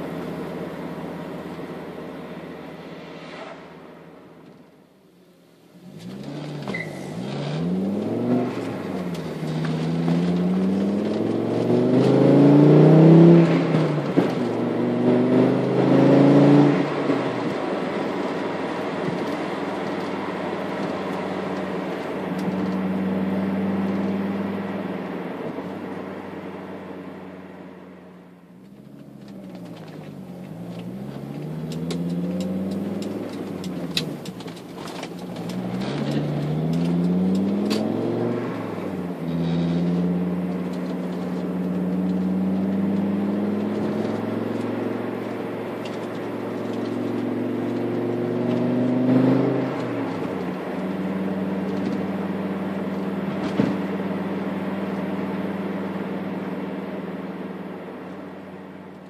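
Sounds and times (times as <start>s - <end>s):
car engine accelerating: 0.0s - 5.0s, 5.6s - 59.0s.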